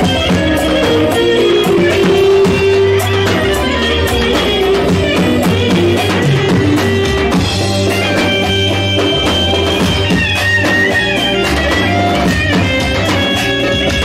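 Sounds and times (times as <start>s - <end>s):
guitar and drums music: 0.0s - 14.0s.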